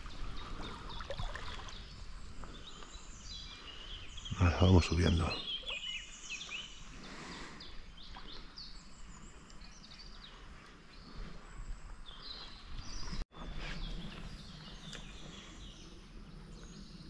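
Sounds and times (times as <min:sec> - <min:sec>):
small birds singing: 0:00.0 - 0:17.0.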